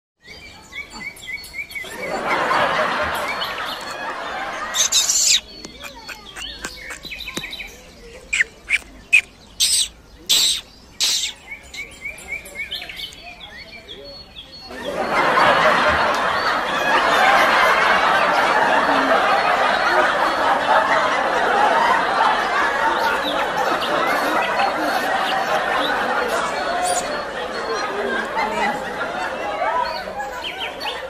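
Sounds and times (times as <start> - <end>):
small birds chirping: 0.2 - 31.0.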